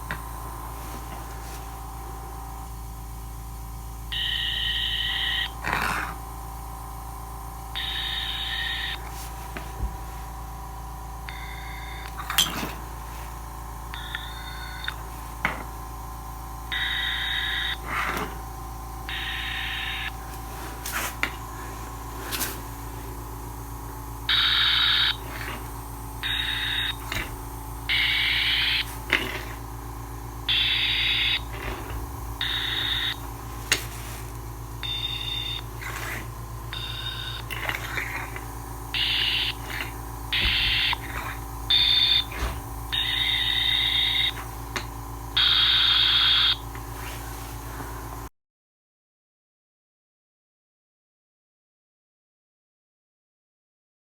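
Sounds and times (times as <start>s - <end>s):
electronic hum: 0.0s - 48.3s.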